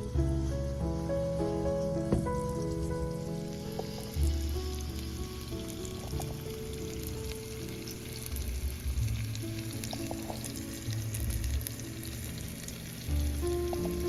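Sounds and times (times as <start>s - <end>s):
background music: 0.0s - 14.0s
pork chops sizzling in oil: 0.0s - 14.0s.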